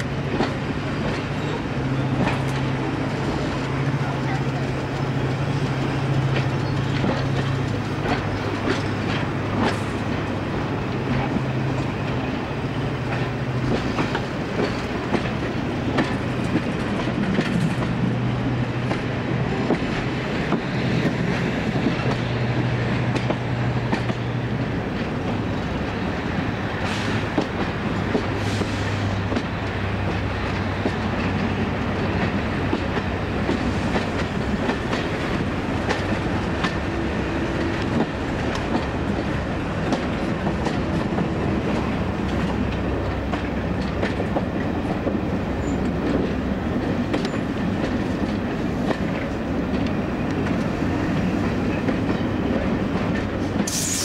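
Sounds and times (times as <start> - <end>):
diesel locomotive engine drone: 0.0 - 54.0
train wheels clicking over rail joints: 0.0 - 54.0.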